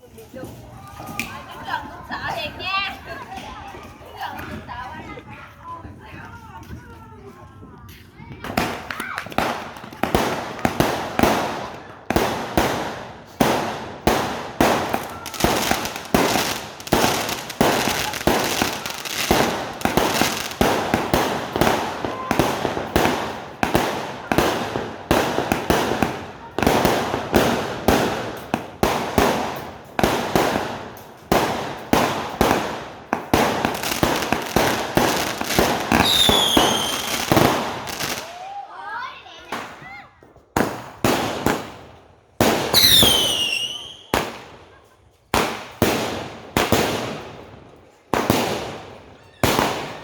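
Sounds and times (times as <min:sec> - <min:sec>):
fireworks shots: 0:08.3 - 0:38.4, 0:39.4 - 0:39.9, 0:40.5 - 0:50.0.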